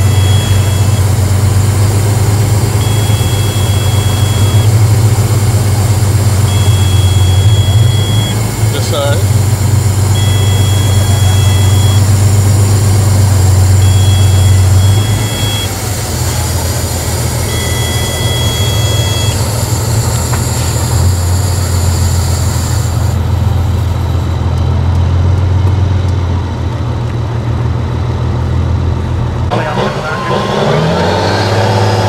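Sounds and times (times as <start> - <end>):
truck engine running under load: 0.0 - 32.0.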